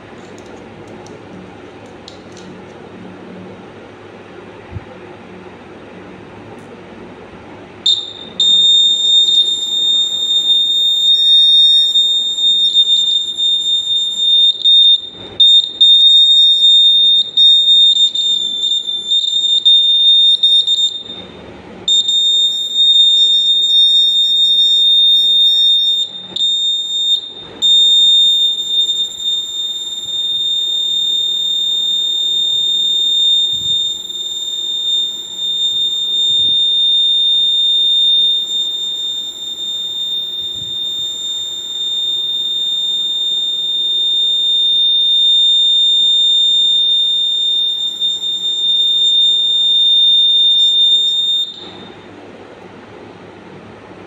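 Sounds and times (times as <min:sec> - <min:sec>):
high-pitched buzzer tone: 0:07.9 - 0:21.3, 0:21.9 - 0:52.0.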